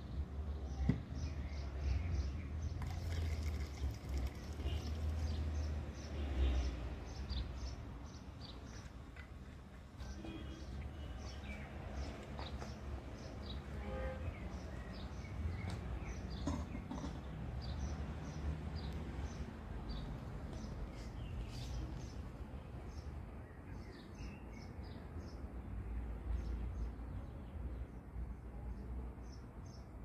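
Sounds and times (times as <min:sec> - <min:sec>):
small birds chirping: 0:00.0 - 0:25.5.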